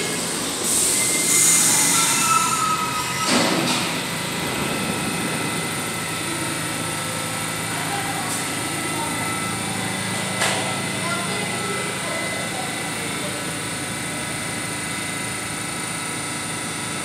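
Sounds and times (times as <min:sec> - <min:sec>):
subway train equipment humming: 0:00.0 - 0:17.0.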